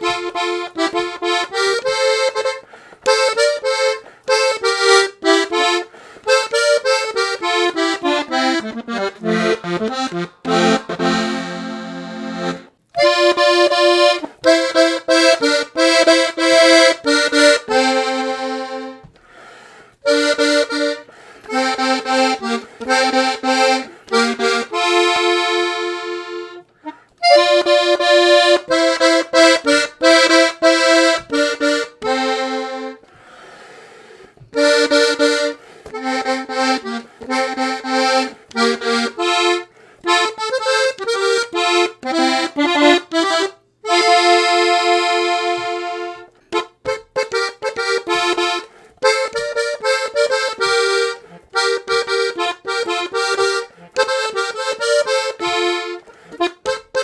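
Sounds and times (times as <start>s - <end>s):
button accordion playing: 0.0s - 57.0s.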